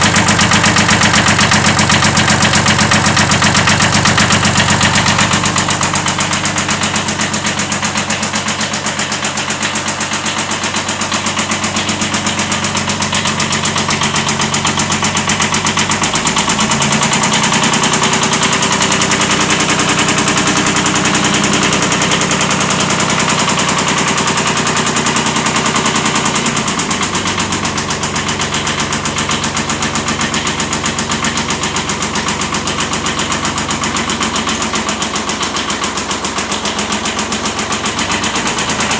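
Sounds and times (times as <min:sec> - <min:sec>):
diesel tractor engine running: 0:00.0 - 0:38.9
engine knocking: 0:00.0 - 0:38.9.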